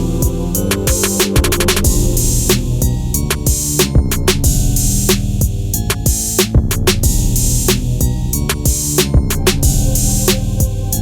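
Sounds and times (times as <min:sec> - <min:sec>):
electronic music with drum-machine beat: 0:00.0 - 0:11.0.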